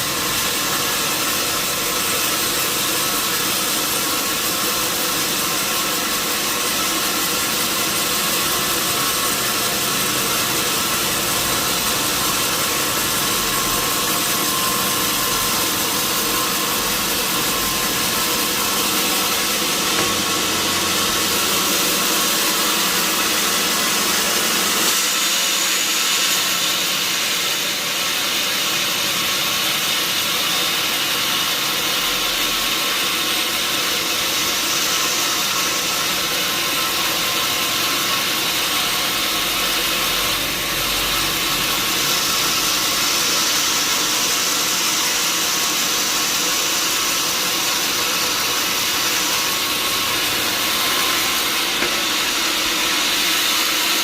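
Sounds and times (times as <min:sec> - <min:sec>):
band saw running high-pitched: 0:00.0 - 0:54.0.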